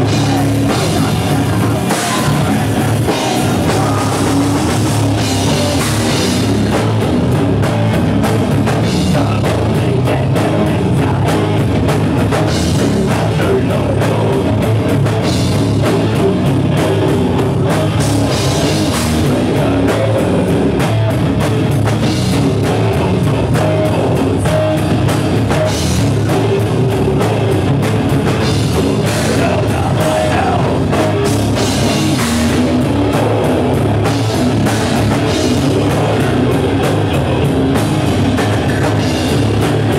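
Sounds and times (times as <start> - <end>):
bass guitar: 0.0 - 39.9
distorted electric guitars: 0.0 - 39.9
drum kit with cymbals: 0.0 - 39.9
vocals: 0.0 - 39.9.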